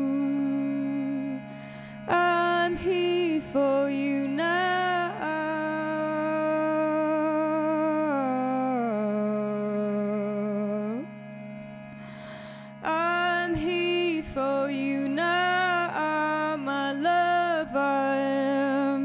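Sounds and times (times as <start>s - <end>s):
harmonium drone: 0.0s - 19.0s.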